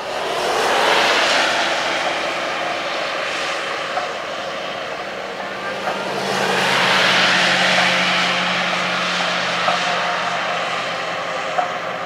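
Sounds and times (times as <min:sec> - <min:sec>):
low engine hum: 0:00.0 - 0:12.0
passing vehicle rushing noise: 0:00.0 - 0:12.0.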